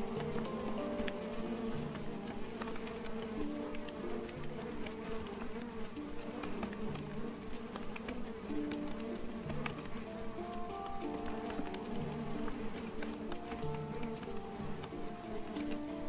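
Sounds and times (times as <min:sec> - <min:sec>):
faint ticks: 0:00.0 - 0:16.0
honeybees buzzing: 0:00.0 - 0:16.0.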